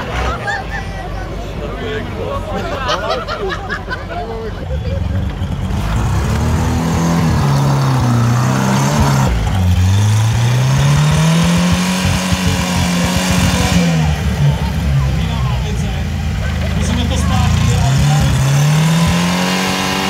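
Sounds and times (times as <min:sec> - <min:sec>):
tractor engine revving: 0:00.0 - 0:20.0.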